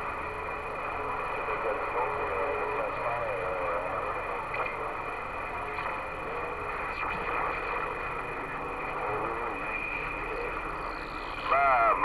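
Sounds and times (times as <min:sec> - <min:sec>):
faint distant radio voices: 0:00.8 - 0:12.0.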